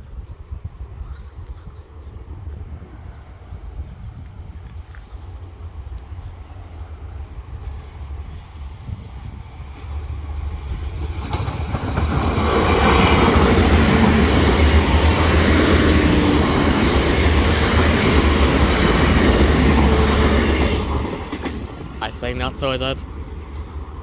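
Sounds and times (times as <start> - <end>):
train rumble and wheel clatter: 0.0 - 24.0.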